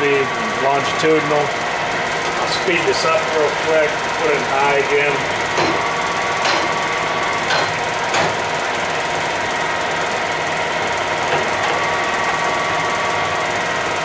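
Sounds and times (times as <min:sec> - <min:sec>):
gear whine: 0:00.0 - 0:14.0
lathe running: 0:00.0 - 0:14.0.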